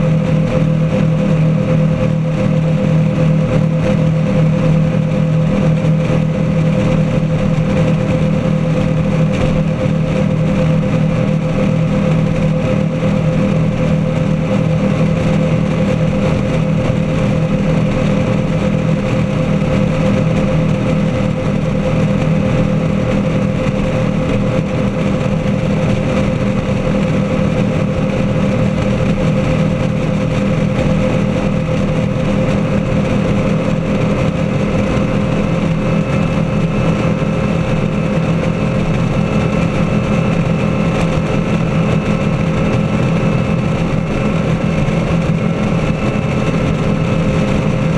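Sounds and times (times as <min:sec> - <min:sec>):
powerboat engines droning: 0:00.0 - 0:47.9
rushing boat wake: 0:00.0 - 0:47.9.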